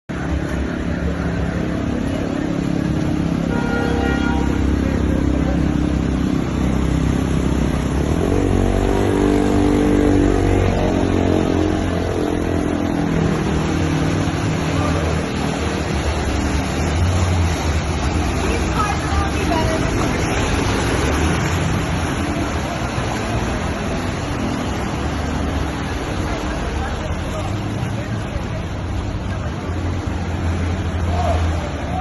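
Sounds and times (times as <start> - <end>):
traffic noise wash: 0.1 - 32.0
vehicle engines running: 0.1 - 32.0.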